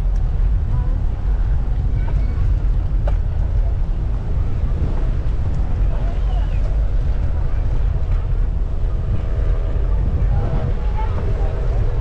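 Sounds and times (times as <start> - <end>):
faint voices: 0.0 - 12.0
wind buffeting microphone: 0.0 - 12.0.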